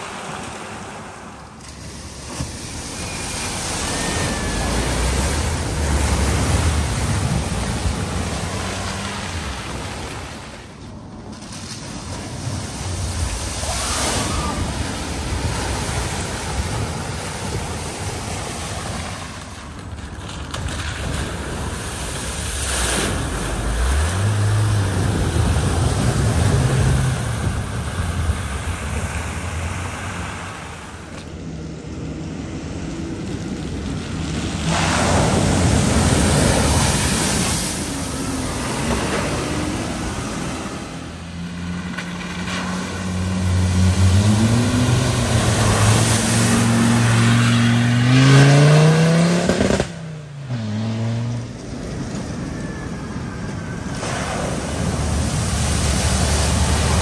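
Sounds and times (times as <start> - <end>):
water splashing off vehicles: 0.0 - 50.5, 51.4 - 57.0
vehicle engines: 0.0 - 57.0.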